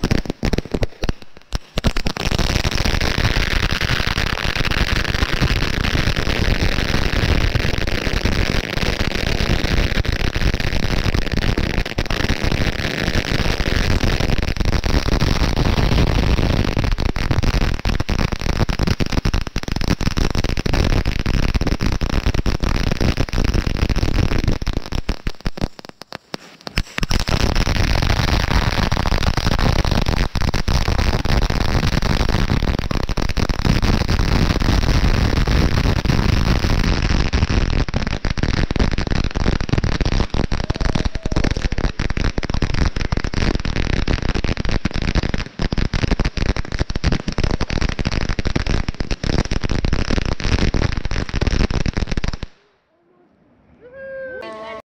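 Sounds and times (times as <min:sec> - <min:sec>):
fireworks crackling and popping: 0:00.0 - 0:52.8.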